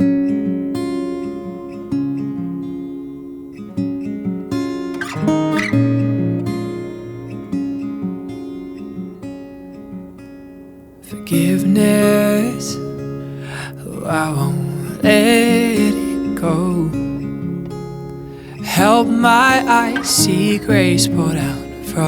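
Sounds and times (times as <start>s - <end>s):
acoustic guitar picking and strumming: 0.0s - 22.0s.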